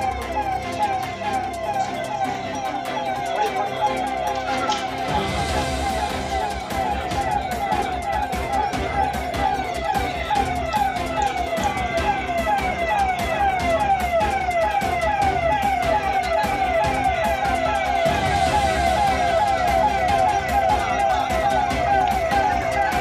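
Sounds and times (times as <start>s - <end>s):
police siren yelping: 0.0s - 23.0s.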